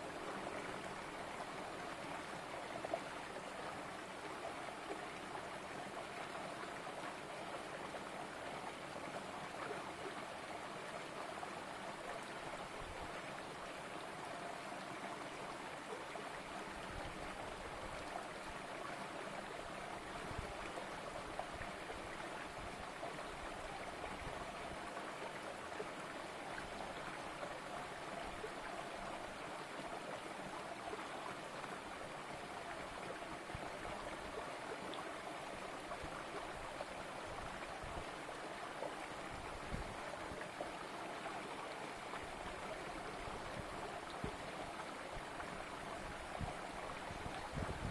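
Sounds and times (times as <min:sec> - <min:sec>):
stream flowing over stones: 0:00.0 - 0:47.9.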